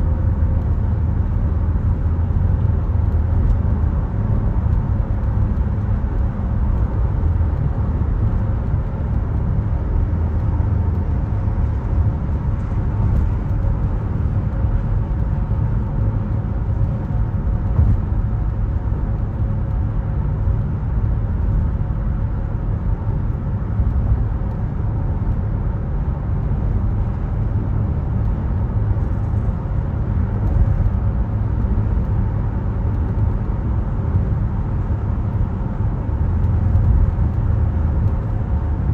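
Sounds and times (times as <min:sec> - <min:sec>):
tyre and engine rumble: 0:00.0 - 0:38.9.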